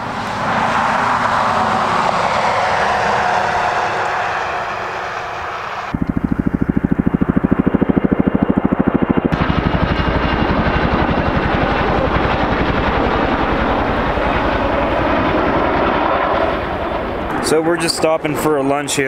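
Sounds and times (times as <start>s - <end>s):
highway traffic: 0.0s - 19.0s
helicopter rotor thudding: 1.8s - 18.8s.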